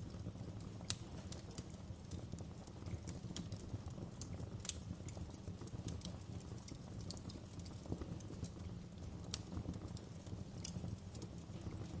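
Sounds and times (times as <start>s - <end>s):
fireplace crackling: 0.0s - 12.0s.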